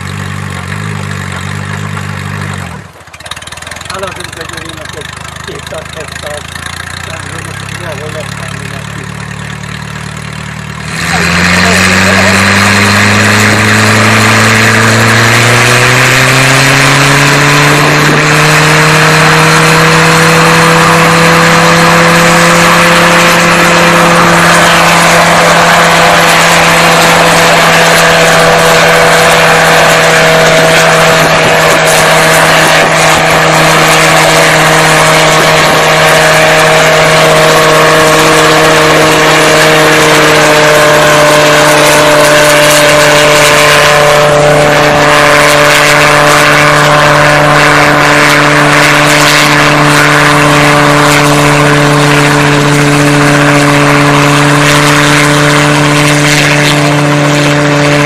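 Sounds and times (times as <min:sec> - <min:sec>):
helicopter engine revving: 0:00.0 - 0:58.0.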